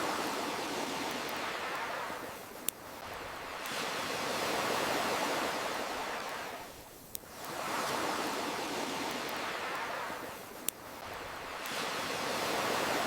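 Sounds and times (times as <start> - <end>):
campfire crackle: 0.0 - 13.0
ocean waves washing in: 0.0 - 13.0.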